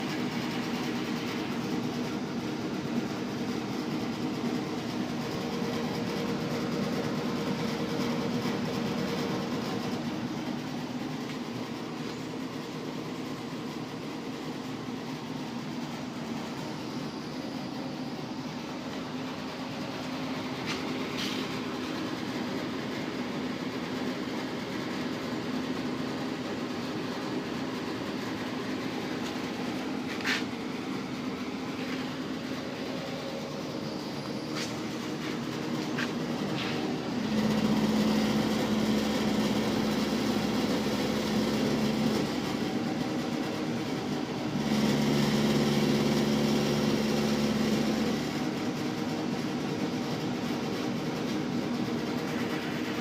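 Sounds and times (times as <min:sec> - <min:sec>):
furnace humming: 0:00.0 - 0:53.0.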